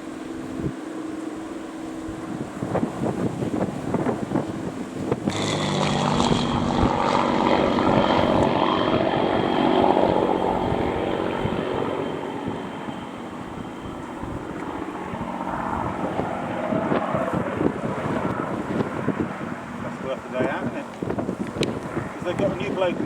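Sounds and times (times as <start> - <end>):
aircraft engines passing: 0.0 - 23.0.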